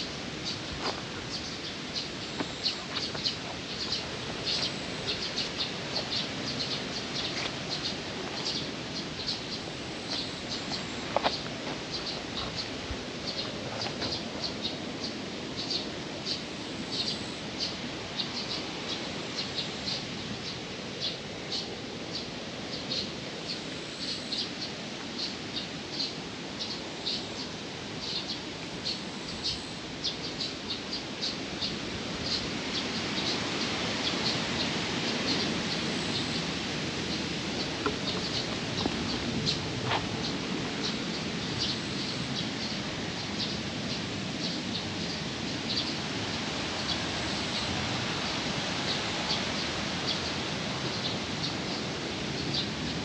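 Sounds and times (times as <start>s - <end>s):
steady background hiss: 0.0s - 53.0s
small birds chirping: 0.4s - 53.0s.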